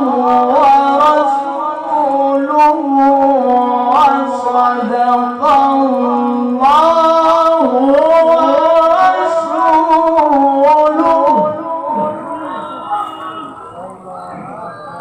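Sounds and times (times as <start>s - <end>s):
man reciting melodically: 0.0s - 14.9s.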